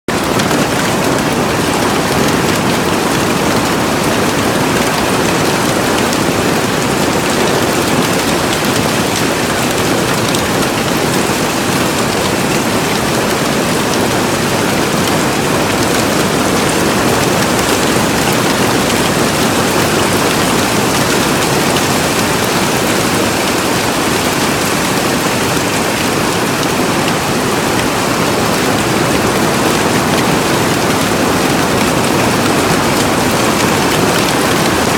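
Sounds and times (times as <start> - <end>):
hail hammering on a greenhouse: 0.1 - 34.9.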